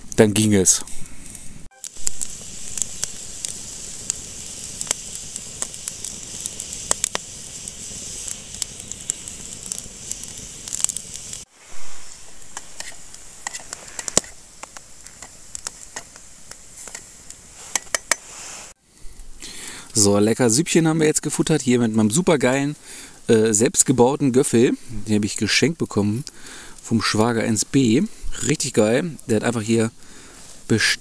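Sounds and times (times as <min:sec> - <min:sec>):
campfire crackling and hissing: 0:00.0 - 0:31.0.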